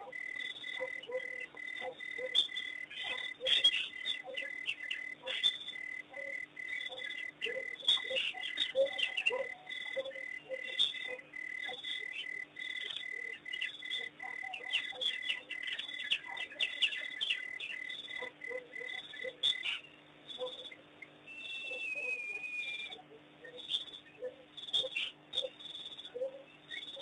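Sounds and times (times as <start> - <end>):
insect trill: 0.0 - 27.0.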